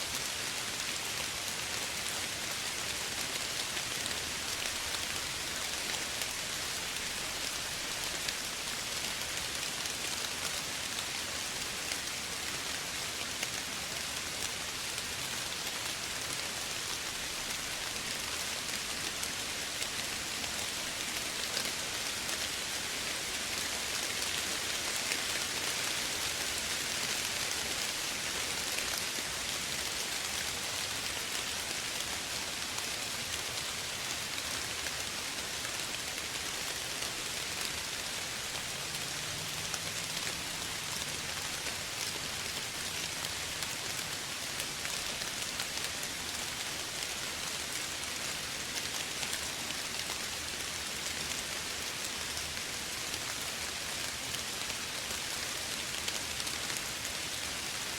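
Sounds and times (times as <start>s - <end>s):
soft rain falling: 0.0s - 57.9s.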